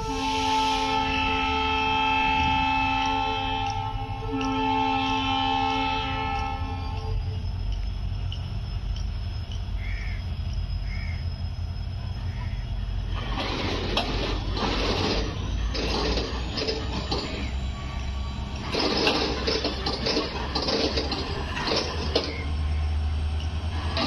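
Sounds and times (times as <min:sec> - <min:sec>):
freight train low rumble: 0:00.0 - 0:24.0
rattling wheels on rails: 0:02.8 - 0:24.0.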